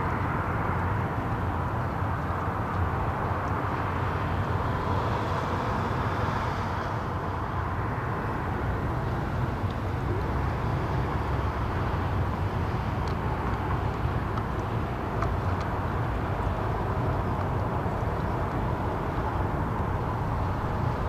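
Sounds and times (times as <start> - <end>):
distant jet engines rumbling: 0.0 - 21.0.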